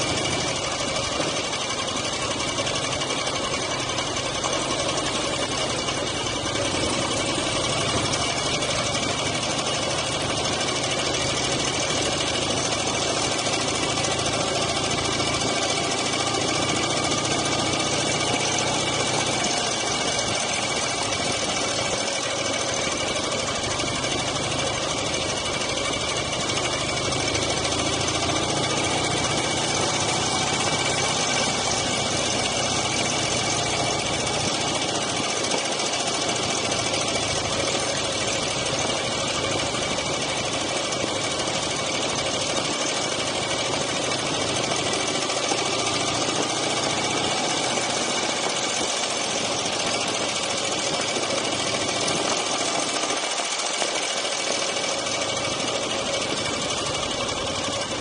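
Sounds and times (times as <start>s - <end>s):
motorcycle engine running steadily: 0.0s - 58.0s.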